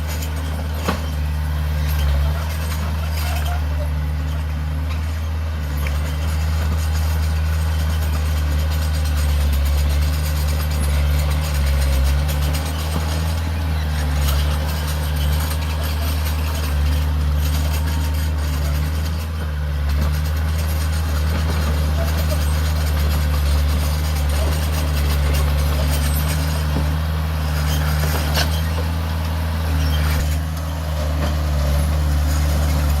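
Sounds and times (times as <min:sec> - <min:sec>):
heavy diesel engine running: 0:00.0 - 0:33.0.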